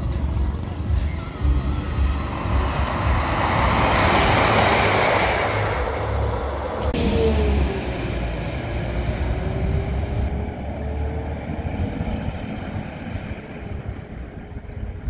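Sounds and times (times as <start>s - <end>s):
diesel train running: 0.0s - 15.0s.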